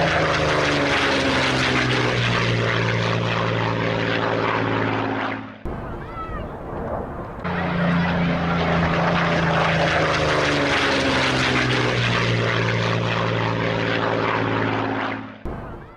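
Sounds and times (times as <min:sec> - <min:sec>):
propeller aircraft engines running: 0:00.0 - 0:15.9.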